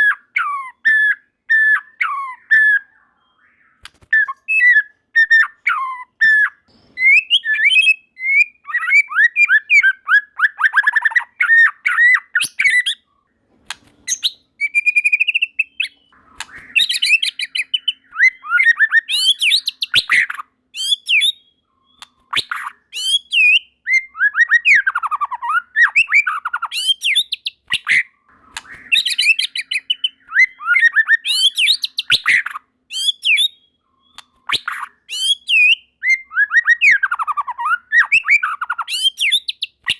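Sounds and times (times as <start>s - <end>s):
bird singing whistled phrases: 0.0s - 13.1s, 14.0s - 39.9s.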